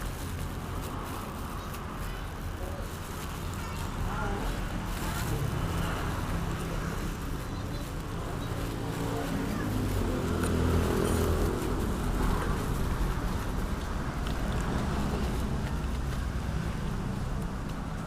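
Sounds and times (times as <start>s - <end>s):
road traffic: 0.0s - 18.0s
vehicle engine running: 0.0s - 18.0s.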